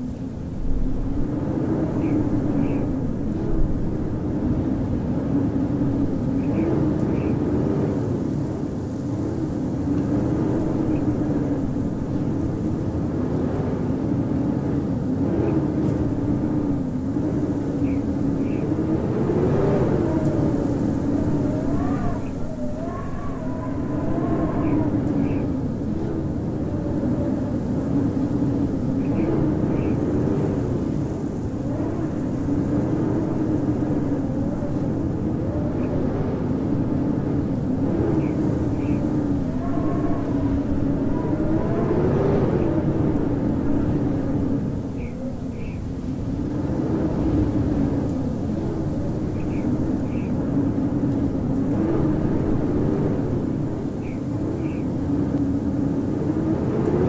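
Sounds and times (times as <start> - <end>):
wind howling: 0.0 - 57.0.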